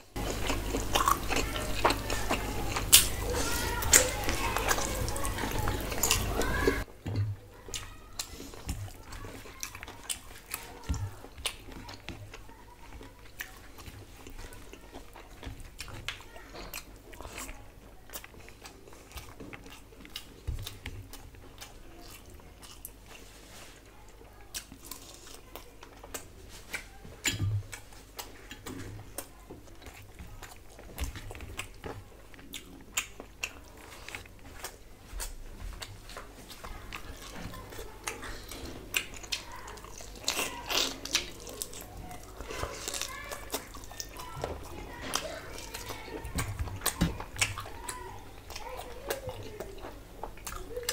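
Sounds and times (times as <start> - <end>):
chewing and mouth smacking: 0.1 - 6.9, 7.6 - 50.9.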